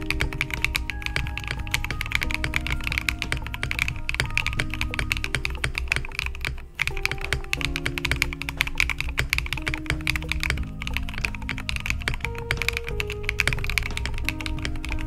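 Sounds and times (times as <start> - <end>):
lo-fi background music: 0.0 - 15.0
mechanical keyboard typing: 0.0 - 15.0.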